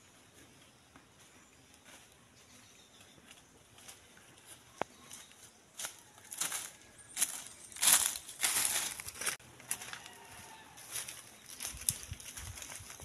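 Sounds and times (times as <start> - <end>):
footsteps crunching through dry leaves: 1.2 - 13.0.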